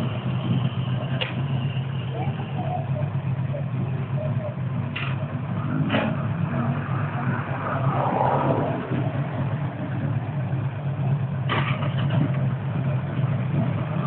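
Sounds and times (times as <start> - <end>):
motorcycle engine idling: 0.0 - 7.0, 9.3 - 14.0.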